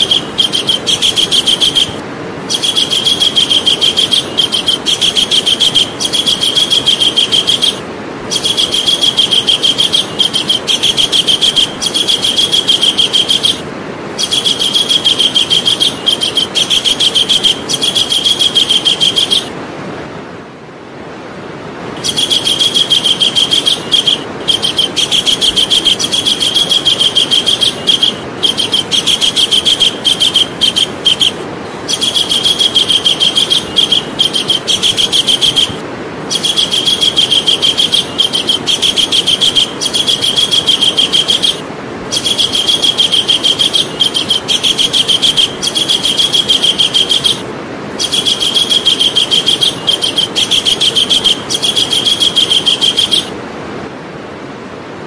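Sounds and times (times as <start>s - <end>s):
kingfisher calling: 0.0s - 19.6s, 22.0s - 53.4s.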